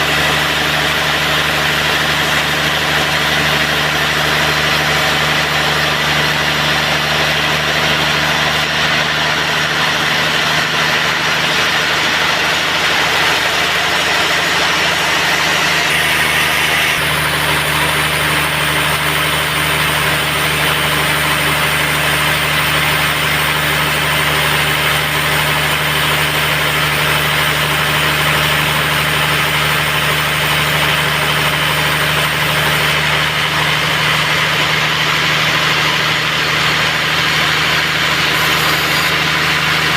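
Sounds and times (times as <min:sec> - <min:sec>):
band sawmill droning: 0:00.0 - 0:39.9.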